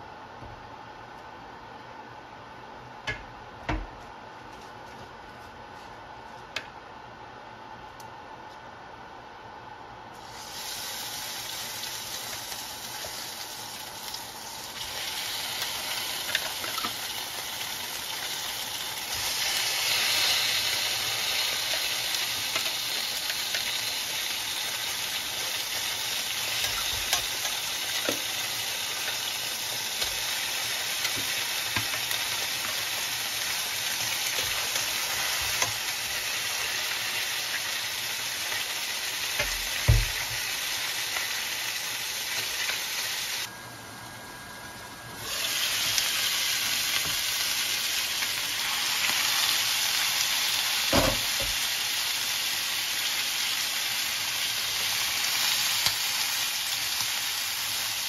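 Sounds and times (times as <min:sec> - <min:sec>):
chicken sizzling in frying pan: 0:10.2 - 0:58.0.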